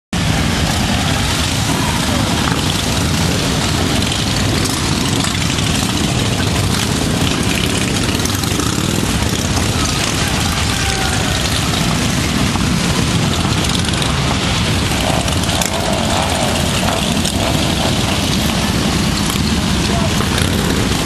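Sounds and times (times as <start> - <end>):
crowd voices: 0.2 - 21.0
motorcycles riding past: 0.2 - 21.0.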